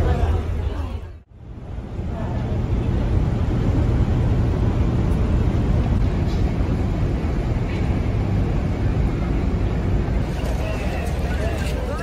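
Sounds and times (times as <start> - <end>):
ship engines rumbling: 0.0 - 12.0.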